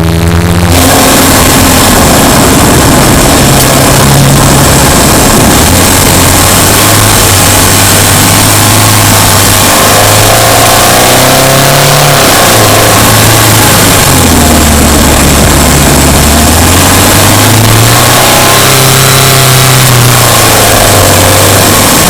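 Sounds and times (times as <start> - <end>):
car engine revving: 0.0 - 22.0
road noise: 0.0 - 22.0.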